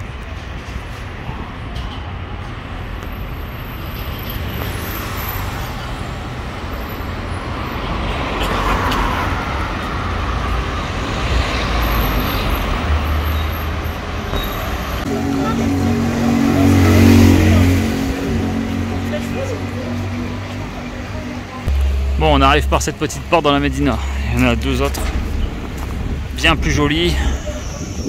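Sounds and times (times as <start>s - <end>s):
cars passing on street: 0.0s - 28.0s.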